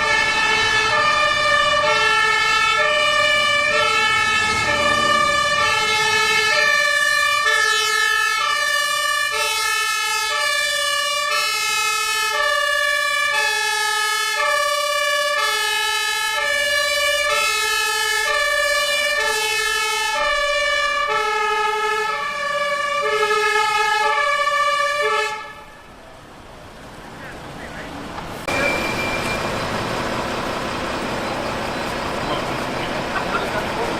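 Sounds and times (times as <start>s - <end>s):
fire engine two-tone siren: 0.0s - 26.0s, 28.4s - 33.9s.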